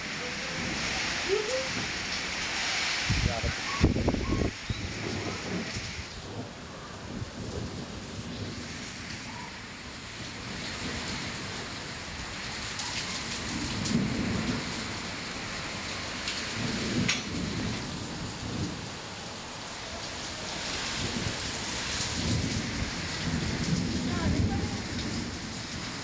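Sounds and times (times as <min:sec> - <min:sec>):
heavy rain pouring: 0:00.0 - 0:26.0
thunder rolling: 0:00.0 - 0:26.0.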